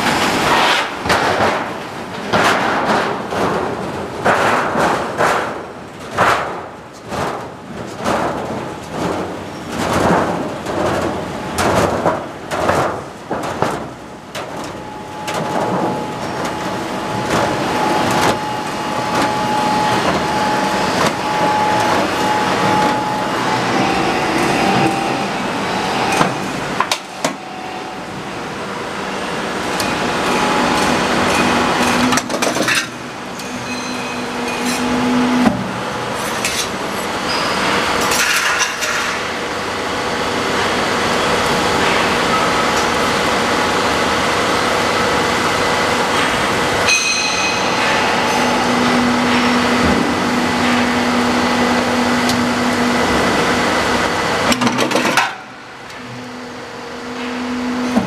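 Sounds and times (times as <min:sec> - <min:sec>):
roll forming machine clattering: 0:00.0 - 0:56.2
steady hum: 0:00.0 - 0:58.0.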